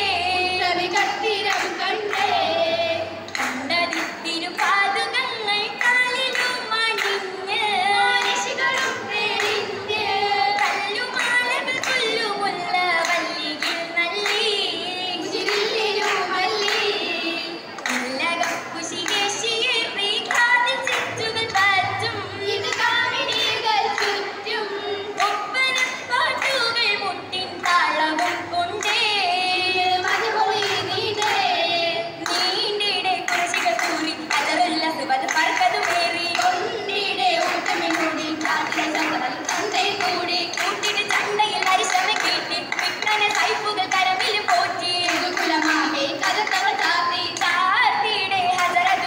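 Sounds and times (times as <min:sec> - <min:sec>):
girls singing in chorus: 0:00.0 - 0:49.0
rhythmic hand claps: 0:00.0 - 0:49.0.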